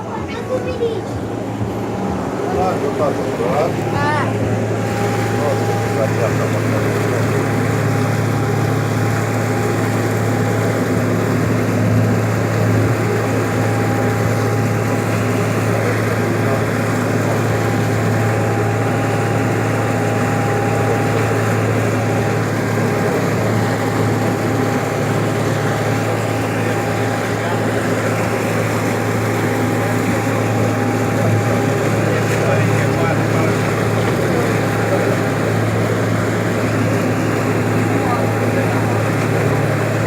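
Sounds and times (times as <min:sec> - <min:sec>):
boat motor droning: 0:00.0 - 0:40.0
motor whine: 0:00.0 - 0:40.0
water noise: 0:00.0 - 0:40.0.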